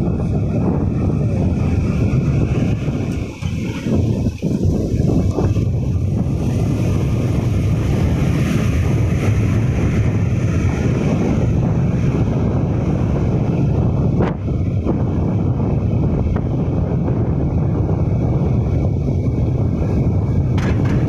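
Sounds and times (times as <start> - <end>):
road and vehicle noise: 0.0 - 21.0
wind buffeting microphone: 0.0 - 21.0.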